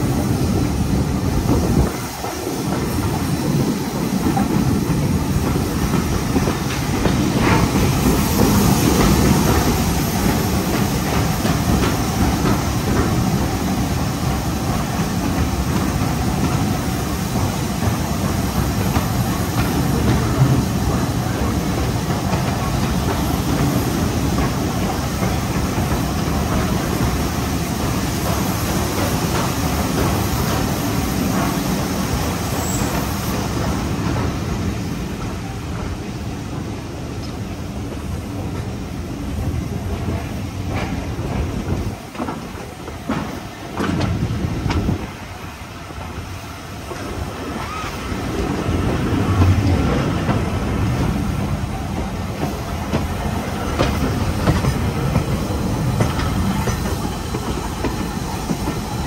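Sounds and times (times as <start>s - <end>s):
train wheel and track noise: 0.0s - 59.0s.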